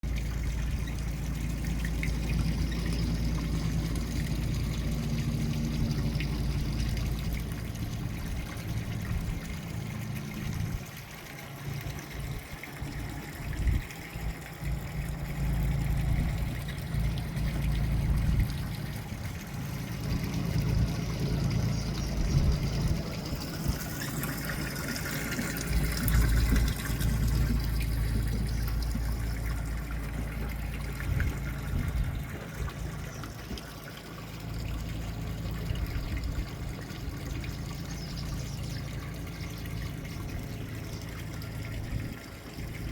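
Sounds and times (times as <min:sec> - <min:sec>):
low uneven rumble: 0:00.0 - 0:42.9
water trickling and lapping: 0:00.0 - 0:42.9.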